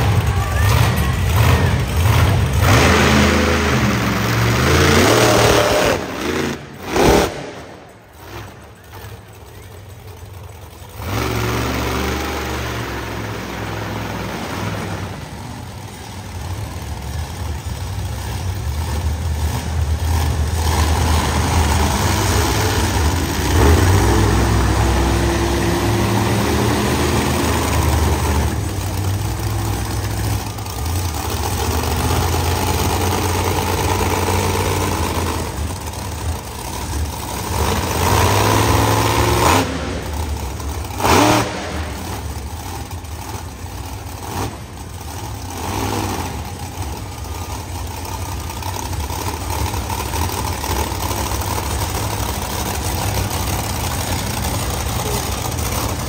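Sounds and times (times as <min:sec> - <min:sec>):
monster truck engine revving: 0:00.0 - 0:56.0.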